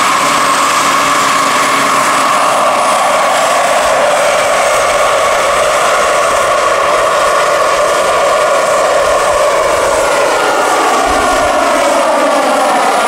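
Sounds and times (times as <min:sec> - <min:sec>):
model helicopter turbine whine: 0:00.0 - 0:13.0
rotor blades rushing: 0:00.0 - 0:13.0.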